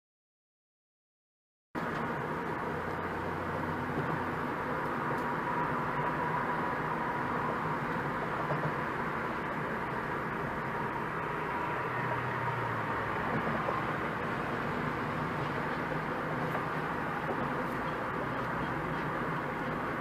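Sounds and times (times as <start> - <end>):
car engine hum: 1.8 - 20.0
road and tyre noise: 1.8 - 20.0.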